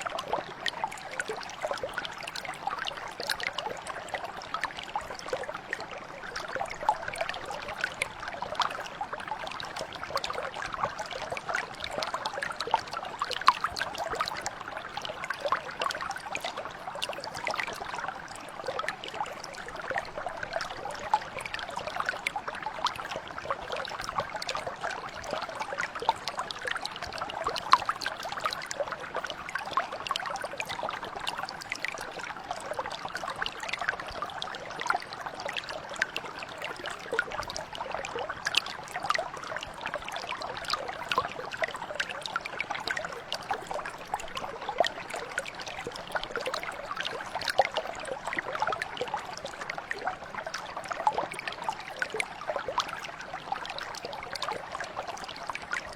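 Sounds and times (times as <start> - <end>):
brook flowing over stones: 0.0 - 55.9.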